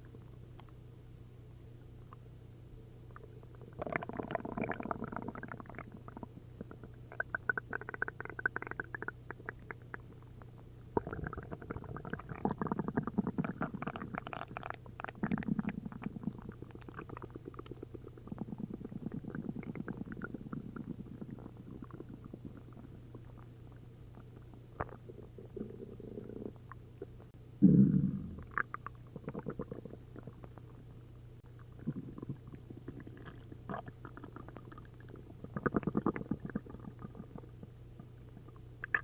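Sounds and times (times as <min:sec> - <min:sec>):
stomach gurgling: 0:03.1 - 0:10.3, 0:11.0 - 0:30.8, 0:31.6 - 0:39.0.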